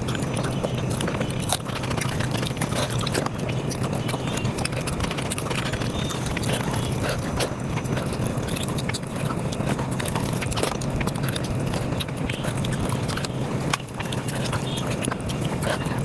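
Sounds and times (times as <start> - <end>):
sped-up chewing and mouth smacking: 0.0 - 16.0.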